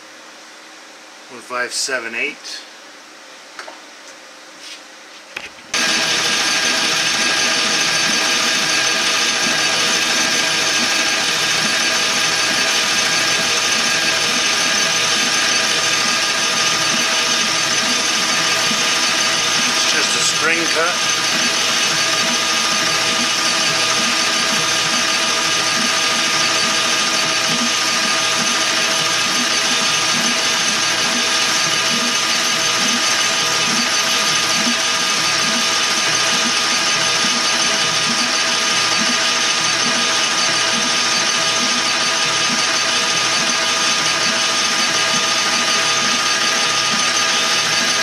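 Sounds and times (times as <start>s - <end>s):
metal lathe humming: 5.7s - 48.0s.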